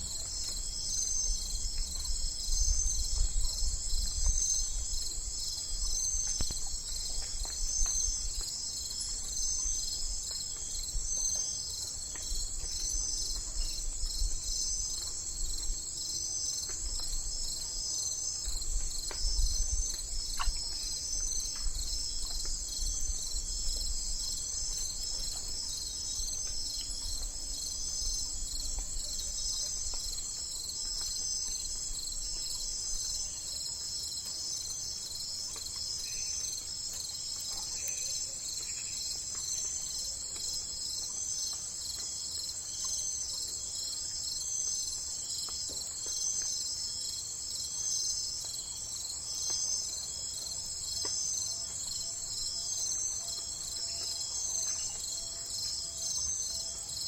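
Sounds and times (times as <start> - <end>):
insects trilling: 0.1 - 57.0.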